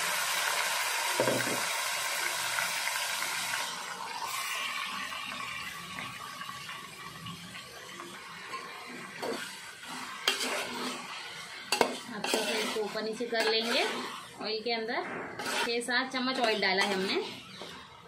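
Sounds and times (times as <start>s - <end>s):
chicken sizzling in hot oil: 0.0s - 14.5s, 15.4s - 18.0s.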